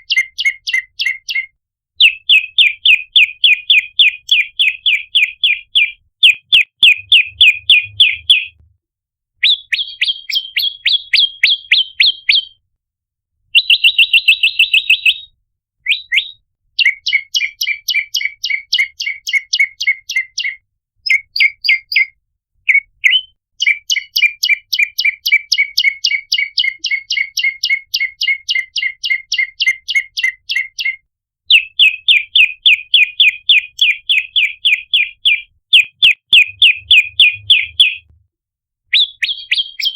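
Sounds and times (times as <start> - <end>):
bird chirping rapidly: 0.0 - 8.6, 9.4 - 12.6, 13.6 - 15.3, 15.9 - 38.1, 38.9 - 39.9.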